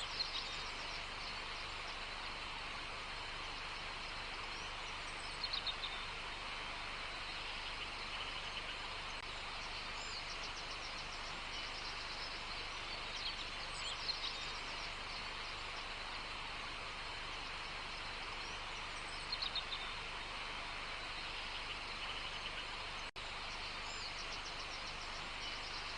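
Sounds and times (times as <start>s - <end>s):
songbirds chirping: 0.0s - 25.9s
steady hiss: 0.0s - 25.9s.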